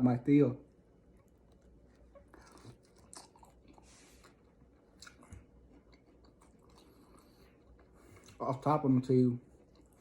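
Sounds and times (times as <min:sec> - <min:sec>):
chewing and biting food: 0:01.0 - 0:08.6, 0:09.4 - 0:10.0.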